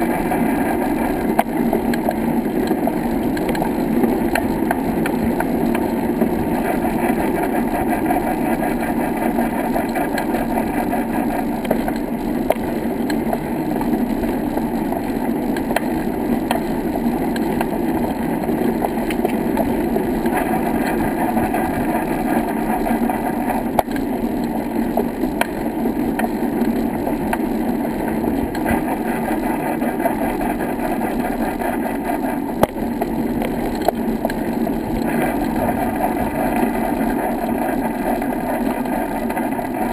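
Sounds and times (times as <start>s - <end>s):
wheels rolling over paving: 0.0s - 39.9s.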